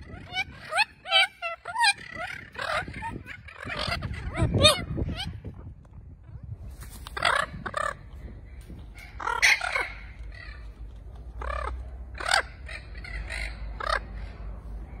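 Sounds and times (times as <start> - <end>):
macaws calling: 0.0 - 5.4, 7.1 - 15.0.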